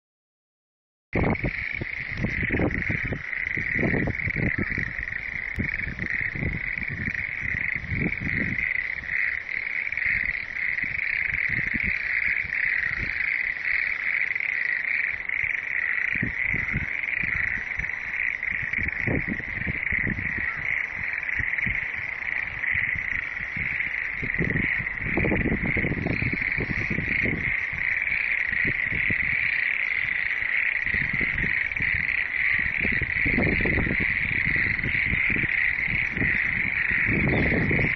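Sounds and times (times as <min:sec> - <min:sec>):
frogs trilling: 0:01.2 - 0:37.9
wind buffeting microphone: 0:01.2 - 0:37.9.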